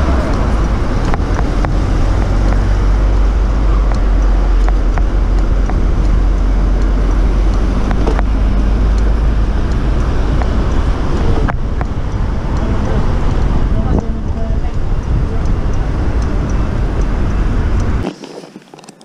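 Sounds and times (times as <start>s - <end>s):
car traffic: 0.0s - 19.0s
wind and road noise: 0.0s - 19.0s.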